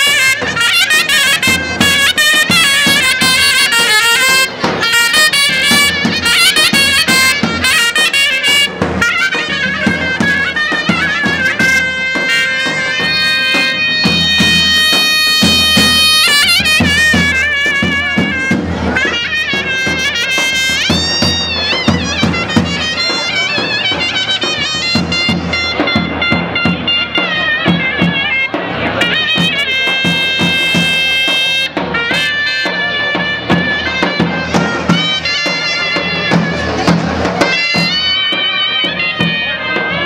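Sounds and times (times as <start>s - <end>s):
drum beats: 0.0s - 40.0s
reedy wind instrument melody: 0.0s - 40.0s.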